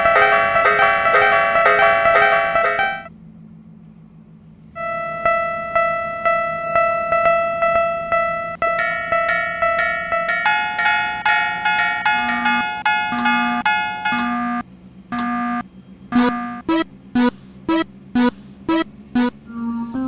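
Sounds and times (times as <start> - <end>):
jingly electronic tune: 0.0 - 3.1, 4.8 - 19.4.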